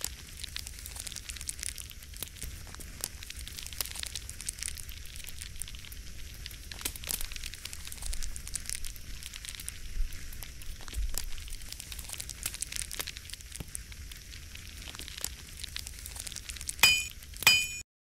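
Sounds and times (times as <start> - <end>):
fire crackling and popping: 0.0 - 17.8
steady hiss: 0.0 - 17.8.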